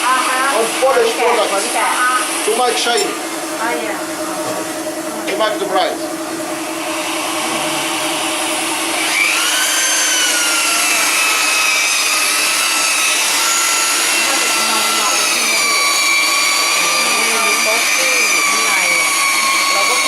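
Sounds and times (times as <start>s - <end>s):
grinder motor whine: 0.0s - 20.0s.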